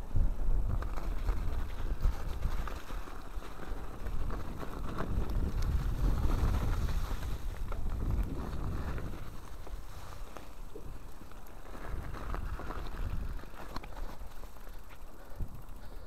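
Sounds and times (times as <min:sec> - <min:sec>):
wind rumble on microphone: 0:00.0 - 0:16.0
bike rattling and knocking: 0:00.2 - 0:16.0.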